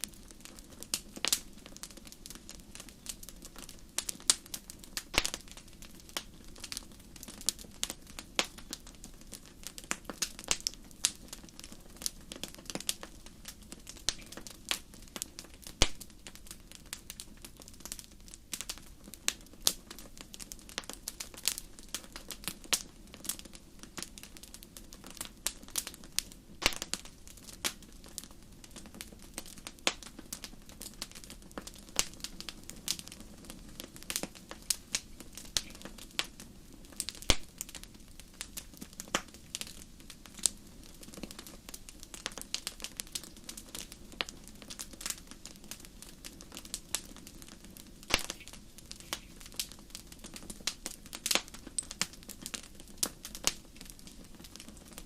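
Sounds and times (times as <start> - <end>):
low hiss of flame: 0.0 - 55.0
wood fire crackling and popping: 0.0 - 55.0.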